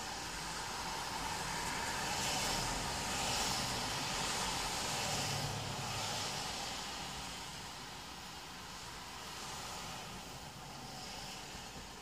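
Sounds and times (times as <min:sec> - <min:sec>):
steady rain: 0:00.0 - 0:12.0
tyres hissing on wet road: 0:00.0 - 0:12.0.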